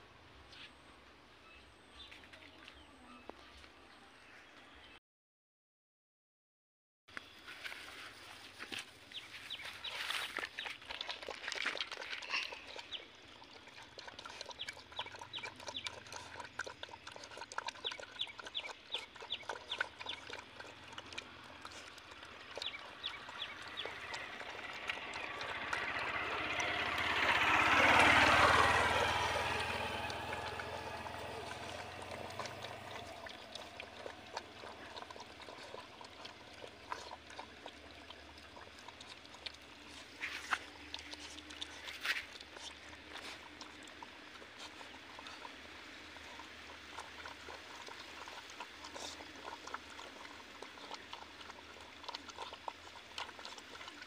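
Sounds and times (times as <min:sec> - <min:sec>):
puppies chewing and lapping: 0:07.2 - 0:54.0.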